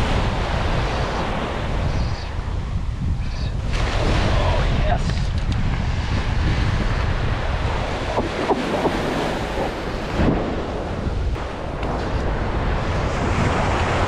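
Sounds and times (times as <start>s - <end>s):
waves washing on sandy beach: 0.0s - 14.0s
wind rumbling on microphone: 0.0s - 14.0s.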